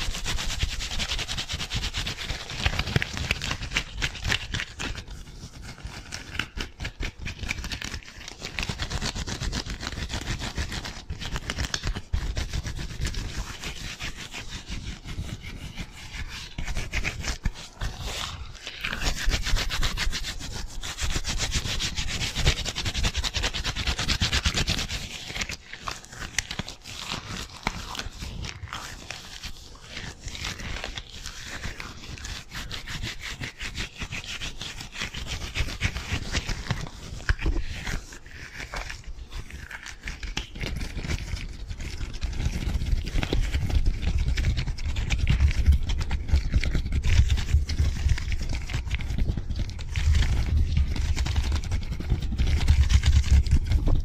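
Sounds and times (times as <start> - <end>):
gloved hands rubbing together: 0.0 - 54.0.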